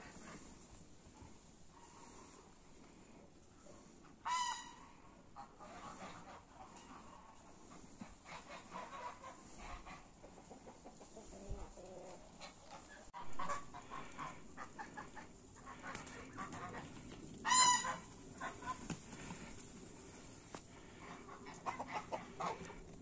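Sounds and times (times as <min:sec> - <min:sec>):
chickens clucking: 0:03.4 - 0:23.0.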